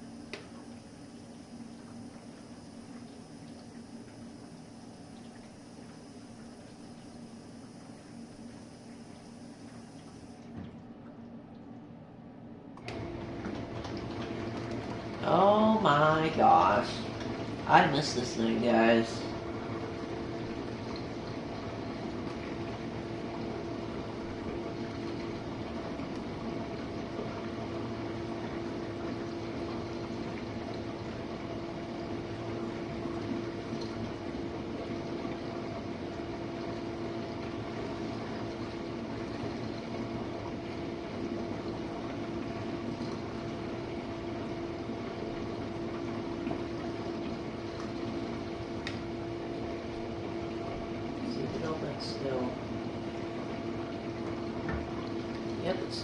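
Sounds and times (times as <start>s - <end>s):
water spraying inside dishwasher: 0.0s - 10.7s, 12.8s - 56.0s
dishwasher pump motor hum: 0.0s - 56.0s.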